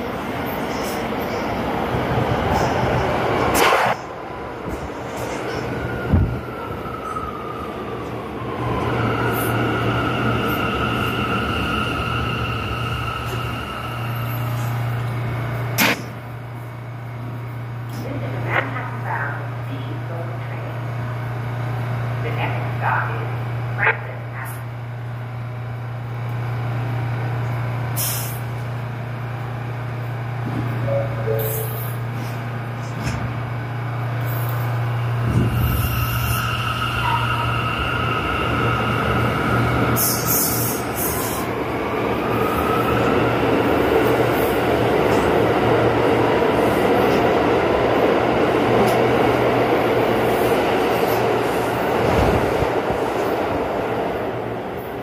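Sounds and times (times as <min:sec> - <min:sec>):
subway train running: 0:00.0 - 0:55.0.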